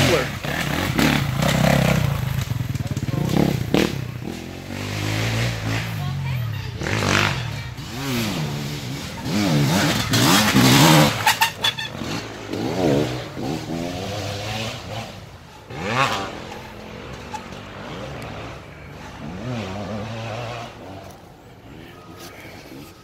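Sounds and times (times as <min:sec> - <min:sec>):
atv engines revving: 0:00.0 - 0:23.0.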